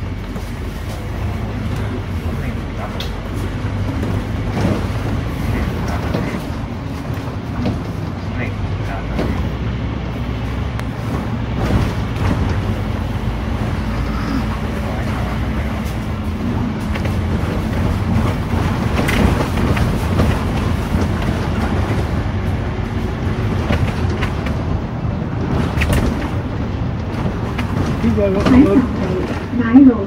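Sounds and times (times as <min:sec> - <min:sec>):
bus engine and road noise: 0:00.0 - 0:30.0.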